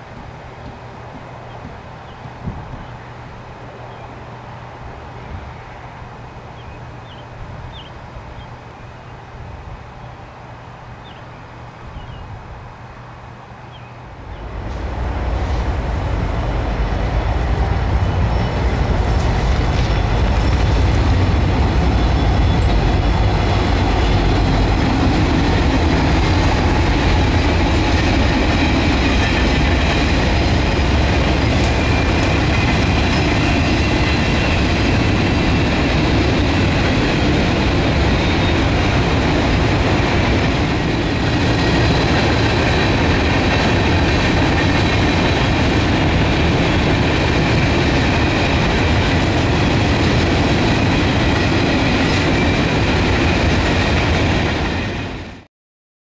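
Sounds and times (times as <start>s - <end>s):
train wheels rumbling on rail: 0.0s - 3.2s, 13.8s - 55.5s.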